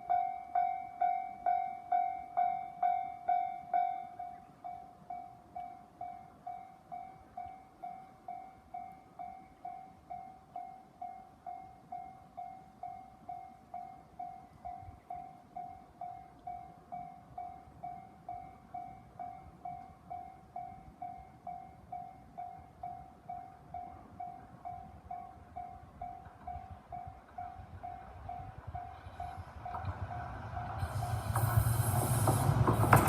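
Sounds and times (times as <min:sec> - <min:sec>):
level crossing warning bell: 0:00.0 - 0:31.3
train rumble and wheel noise: 0:00.0 - 0:33.0.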